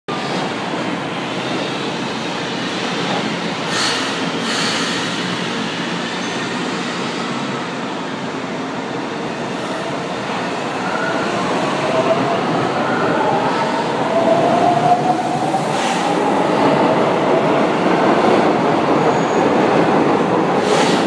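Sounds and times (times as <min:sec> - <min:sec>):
train wheels rumbling on rails: 0:00.1 - 0:21.0.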